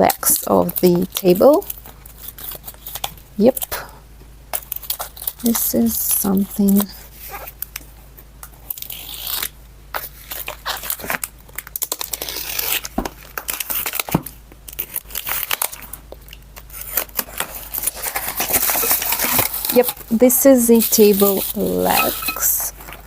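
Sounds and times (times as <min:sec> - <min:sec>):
packaging crinkling and tearing: 0:00.0 - 0:03.9, 0:04.5 - 0:23.0.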